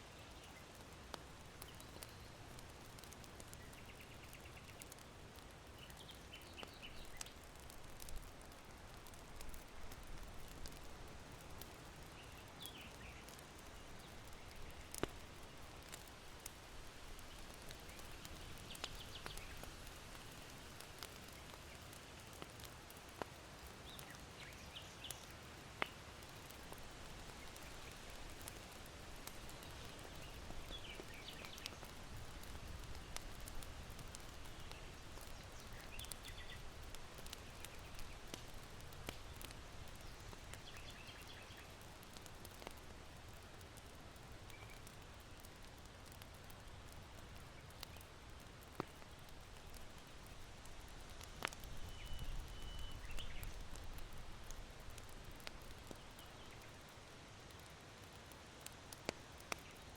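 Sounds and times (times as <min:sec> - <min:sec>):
faint steady wind: 0:00.0 - 0:59.9
small birds chirping: 0:00.1 - 0:09.7, 0:11.6 - 0:16.1, 0:17.0 - 0:20.4, 0:23.3 - 0:50.4, 0:51.2 - 0:57.0
charcoal fire popping: 0:00.1 - 0:59.9.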